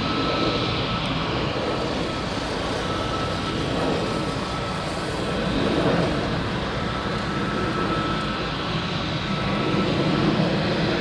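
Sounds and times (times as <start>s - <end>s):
jet engines at low power: 0.0s - 11.0s
thin steady whine: 0.0s - 11.0s.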